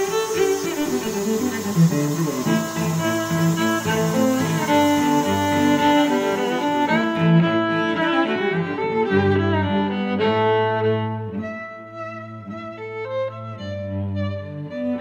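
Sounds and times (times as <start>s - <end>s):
bowed strings slow melody: 0.0s - 15.0s.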